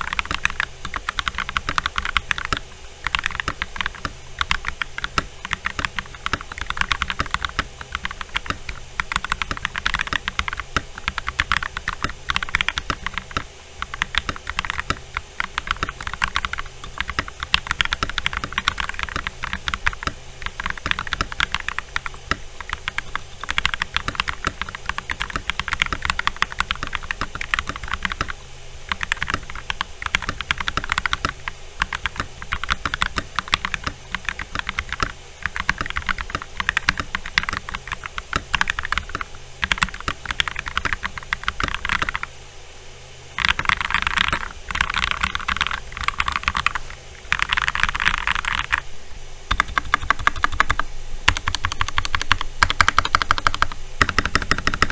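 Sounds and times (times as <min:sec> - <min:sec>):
mechanical keyboard typing: 0:00.0 - 0:42.3, 0:43.4 - 0:48.9, 0:49.5 - 0:54.9.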